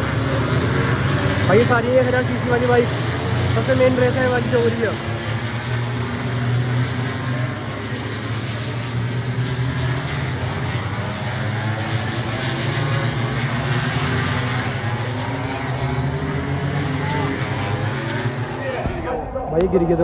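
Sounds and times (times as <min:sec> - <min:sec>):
race bike engines revving: 0:00.0 - 0:20.0.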